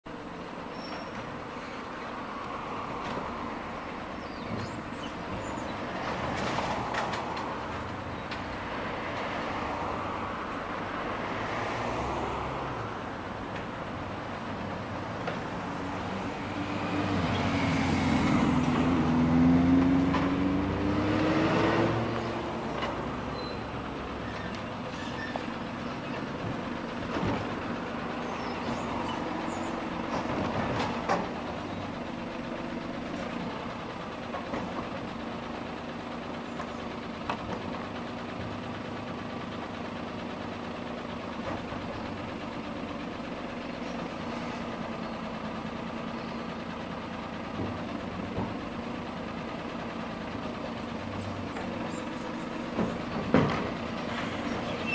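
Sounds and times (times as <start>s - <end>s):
truck diesel engine running: 0.1s - 54.9s.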